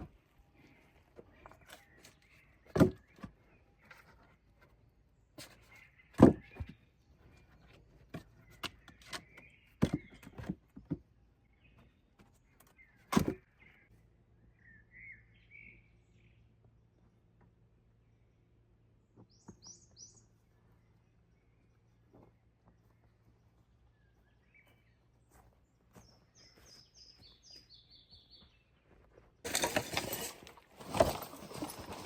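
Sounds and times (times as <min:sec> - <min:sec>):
birds chirping faintly: 0:00.0 - 0:32.0.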